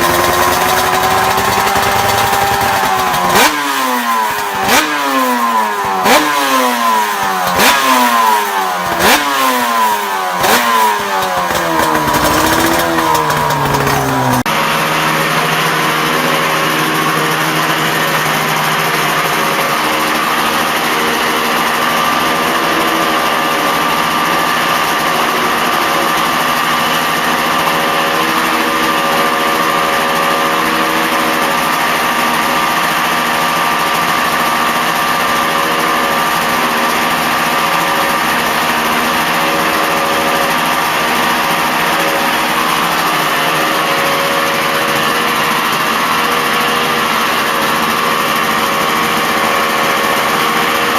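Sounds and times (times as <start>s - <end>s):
two-stroke motorcycle engine: 0.0s - 50.9s.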